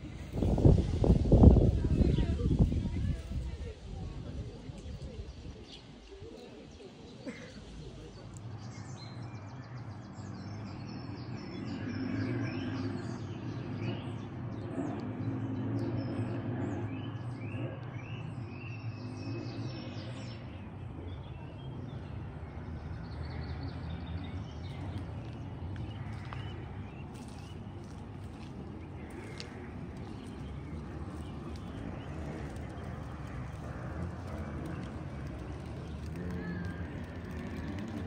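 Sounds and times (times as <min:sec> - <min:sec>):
songbirds chirping and singing: 0:00.0 - 0:38.0.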